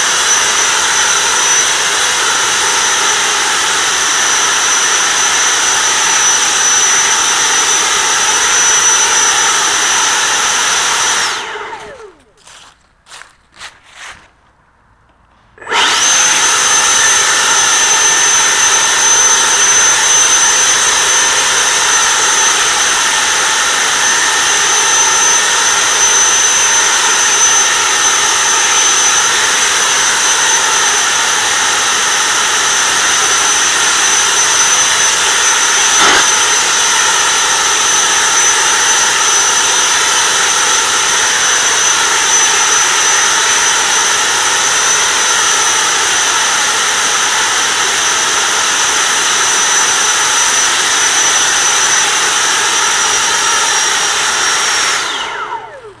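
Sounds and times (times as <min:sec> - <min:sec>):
leaf blower rush and whine: 0:00.0 - 0:14.3, 0:15.6 - 0:56.0.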